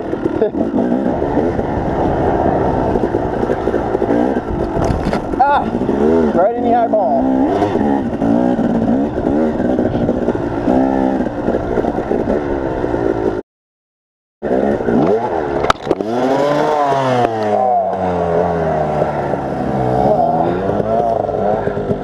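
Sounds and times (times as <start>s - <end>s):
motorbike engine revving: 0.0s - 13.4s, 14.4s - 22.0s.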